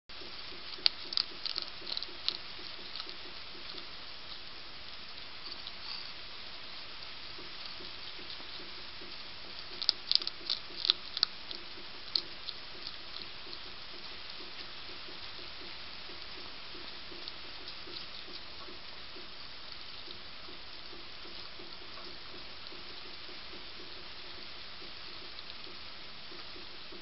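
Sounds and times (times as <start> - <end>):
hedgehog crunching food pellets: 0.1 - 27.0
steady hiss: 0.1 - 27.0.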